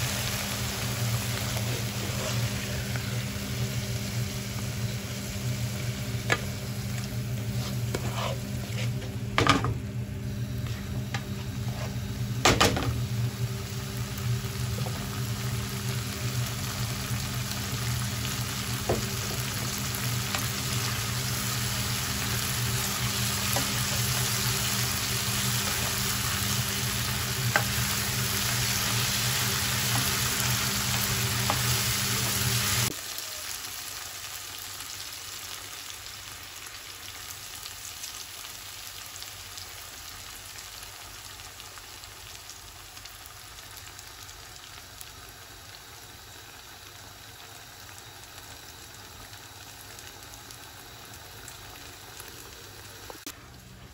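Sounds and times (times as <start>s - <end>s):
vegetables sizzling in oil: 0.0s - 53.9s.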